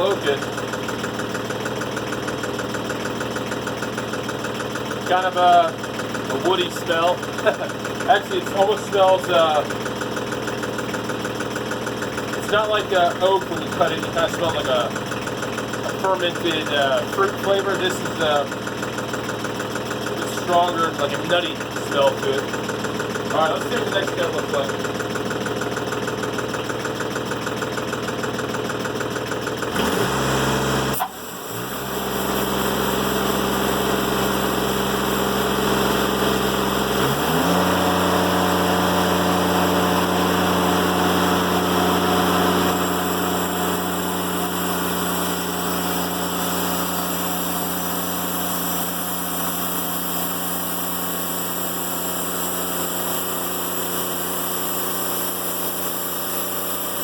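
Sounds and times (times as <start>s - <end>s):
sawmill engine cutting log: 0.0s - 57.0s.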